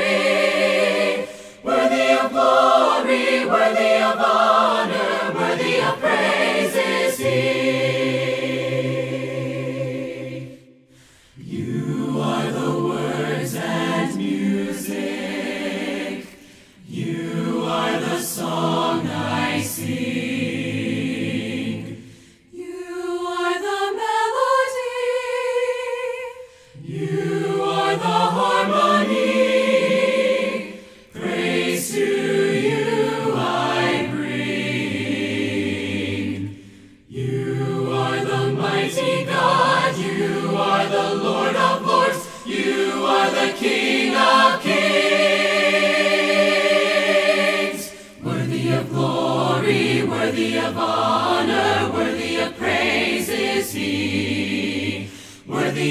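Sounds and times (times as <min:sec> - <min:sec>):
group singing a cappella harmony: 0:00.0 - 0:55.9.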